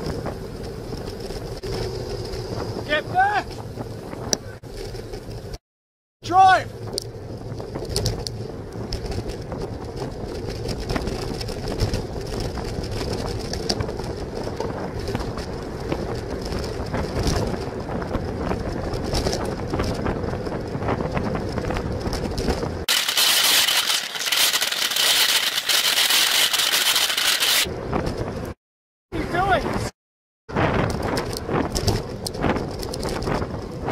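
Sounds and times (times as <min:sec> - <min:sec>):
wind and road rumble: 0:00.0 - 0:05.6, 0:06.2 - 0:33.9.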